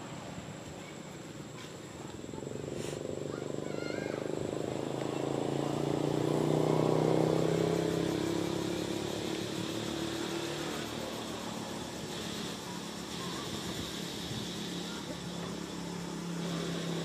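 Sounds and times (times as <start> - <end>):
vehicle engine passing by: 2.2 - 17.0.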